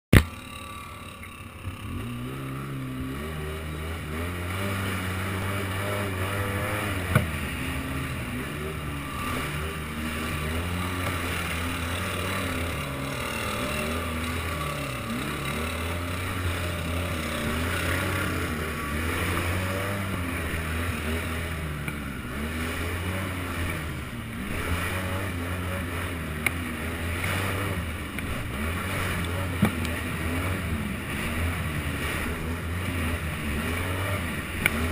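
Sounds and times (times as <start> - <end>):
atv engine revving: 0.2 - 34.9.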